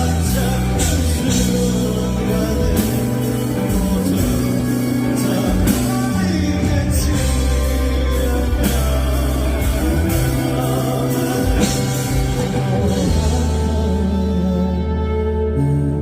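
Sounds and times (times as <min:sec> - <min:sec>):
live band music: 0:00.0 - 0:16.0
person singing: 0:00.0 - 0:16.0.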